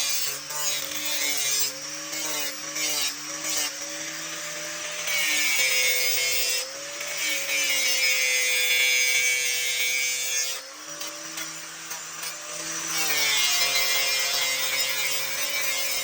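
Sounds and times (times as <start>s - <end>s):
power tool motor cutting material: 0.0s - 16.0s.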